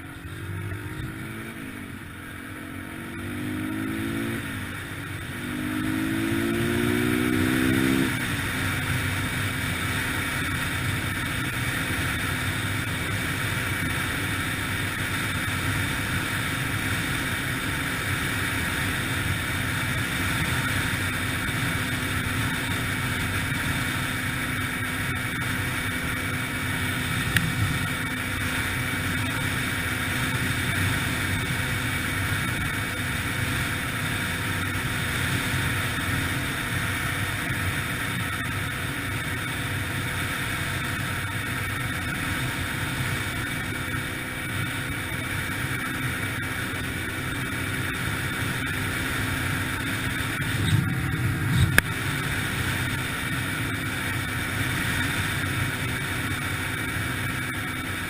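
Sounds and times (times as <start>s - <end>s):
dirt bike engine accelerating: 0.0s - 58.0s
steady rush of noise: 0.0s - 58.0s.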